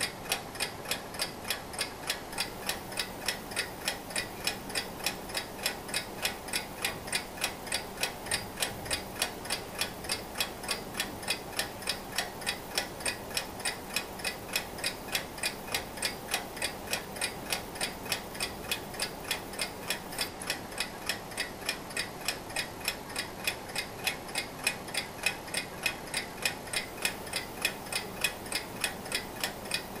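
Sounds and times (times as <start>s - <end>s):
mechanical clock ticking: 0.0s - 30.0s.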